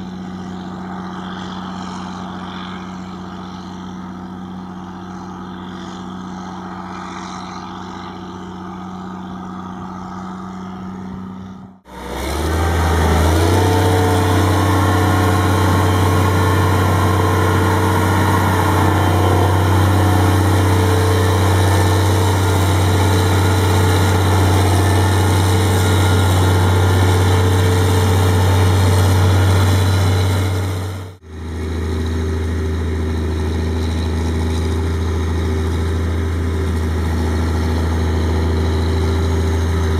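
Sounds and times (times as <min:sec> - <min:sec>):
diesel engines running: 0:00.0 - 0:39.9
engine revving up: 0:00.0 - 0:39.9.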